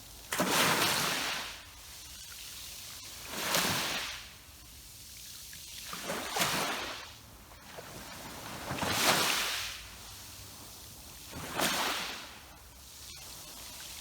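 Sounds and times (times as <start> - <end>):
sea waves washing on shore: 0.0 - 14.0.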